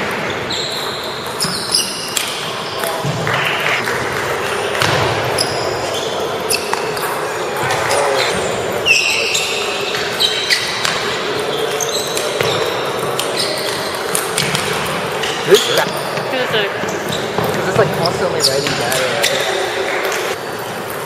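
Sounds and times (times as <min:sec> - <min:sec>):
background chatter: 0:02.5 - 0:20.9.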